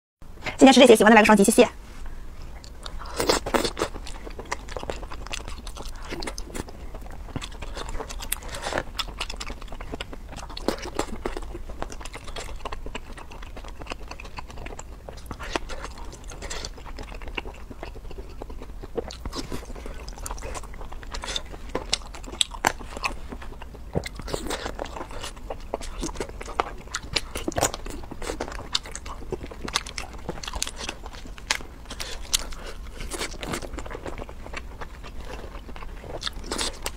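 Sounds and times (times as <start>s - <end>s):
crunching and chewing: 2.5s - 36.9s.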